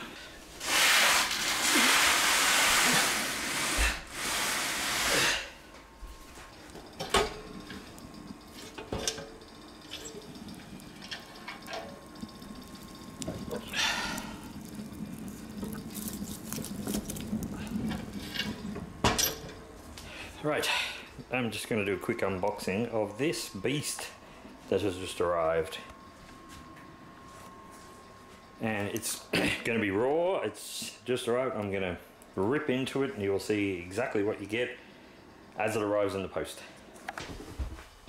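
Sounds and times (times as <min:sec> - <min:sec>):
wood fire crackling in stove: 0:00.0 - 0:38.0.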